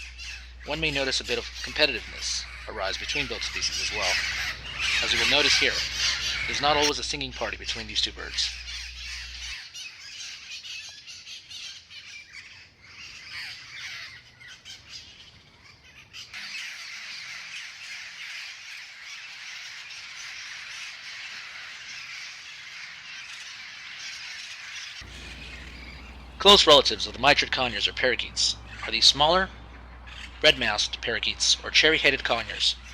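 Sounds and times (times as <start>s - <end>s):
din of flock calls: 0.0s - 32.9s
parrots squawking: 0.0s - 32.9s.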